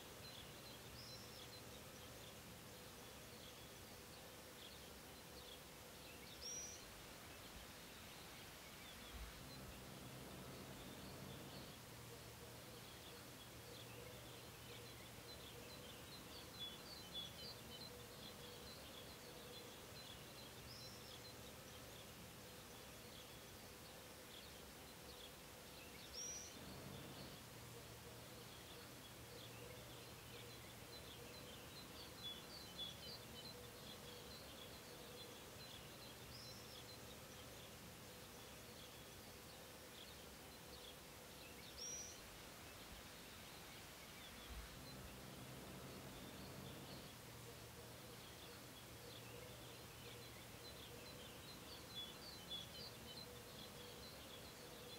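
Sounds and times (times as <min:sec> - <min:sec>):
faint steady hum: 0:00.0 - 0:54.9
small birds chirping: 0:00.0 - 0:54.9.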